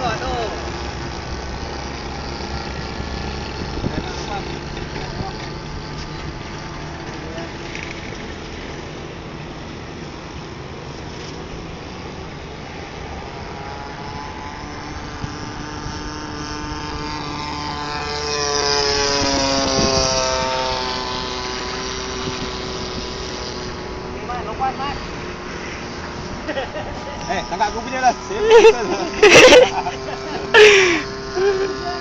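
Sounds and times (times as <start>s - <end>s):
model plane engine buzzing: 0.0s - 32.0s.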